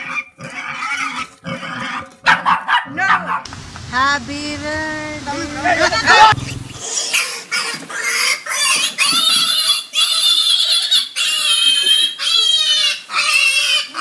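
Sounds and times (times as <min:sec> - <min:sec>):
piglet squealing: 0:00.0 - 0:03.4, 0:06.0 - 0:14.0.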